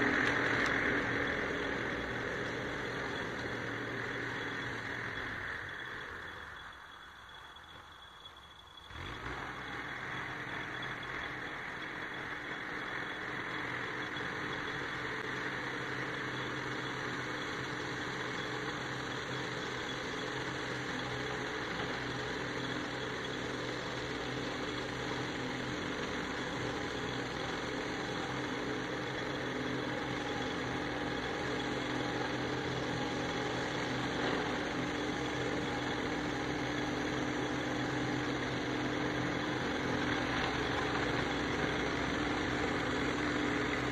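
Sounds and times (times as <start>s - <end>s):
tractor engine drone: 0.0s - 43.9s.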